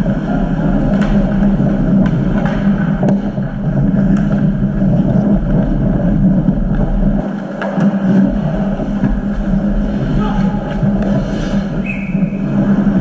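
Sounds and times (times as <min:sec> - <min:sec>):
hockey sticks and puck clacking: 0:00.0 - 0:13.0
low hum and rumble: 0:00.0 - 0:13.0.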